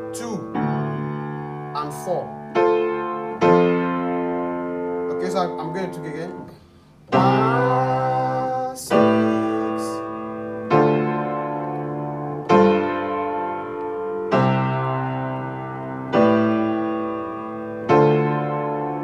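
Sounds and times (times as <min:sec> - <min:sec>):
piano chords ringing: 0:00.0 - 0:19.0.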